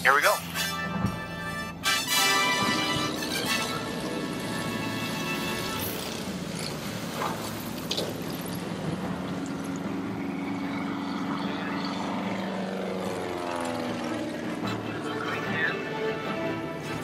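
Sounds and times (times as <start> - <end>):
plane engine and propeller droning: 0.0 - 17.0.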